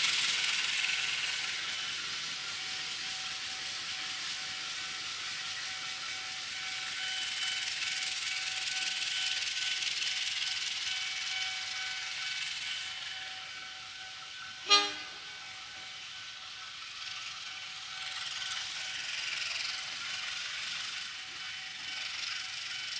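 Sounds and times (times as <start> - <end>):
passing train rolling: 0.0 - 22.9
wheels whining on rails: 0.0 - 22.9.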